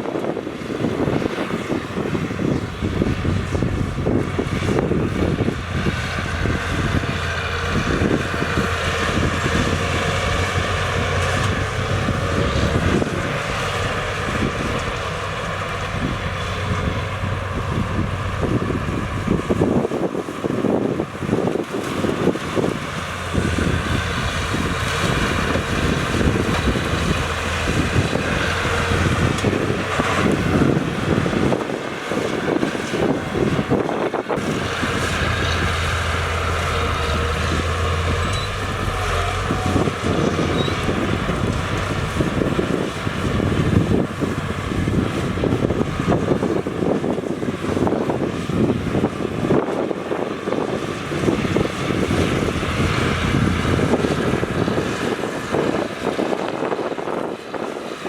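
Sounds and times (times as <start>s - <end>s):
heavy machinery diesel engines: 0.0s - 58.0s.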